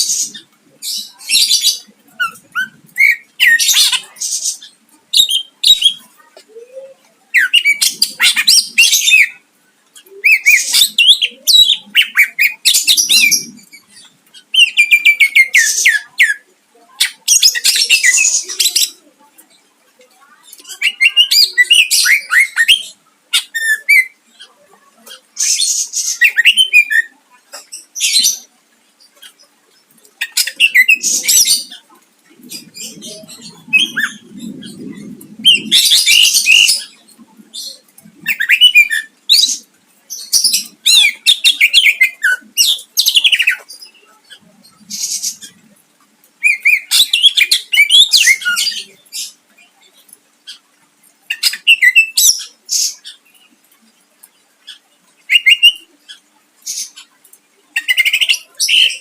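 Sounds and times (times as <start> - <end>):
bird singing sharp chattering phrases: 0.0 - 45.8, 46.4 - 53.5, 54.2 - 59.0.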